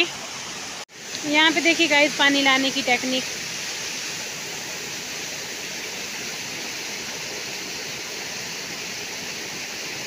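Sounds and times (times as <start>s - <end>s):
small waterfall: 0.0s - 10.0s
stream water rushing over rocks: 0.0s - 10.0s.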